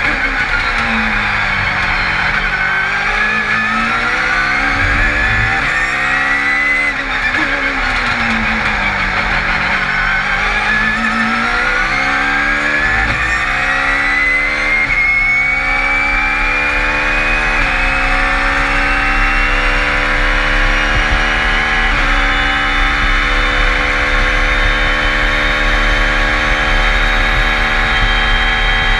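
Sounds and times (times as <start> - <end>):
high whine: 0.0 - 28.9
race car engine shifting gears: 0.0 - 28.9.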